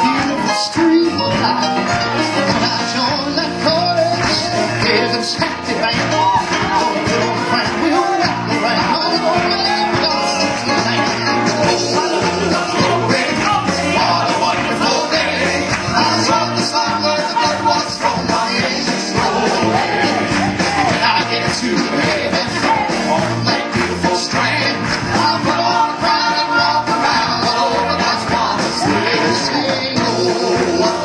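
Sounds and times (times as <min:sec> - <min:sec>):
gospel band playing: 0:00.0 - 0:31.0
steady drum beat: 0:00.0 - 0:31.0.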